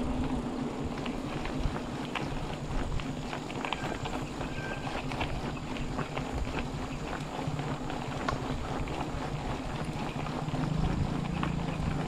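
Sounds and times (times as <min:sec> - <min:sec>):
bike clicking and rattling: 0:00.0 - 0:12.0
bike tyres rumbling on trail: 0:00.0 - 0:12.0
wind rumbling on microphone: 0:00.0 - 0:12.0.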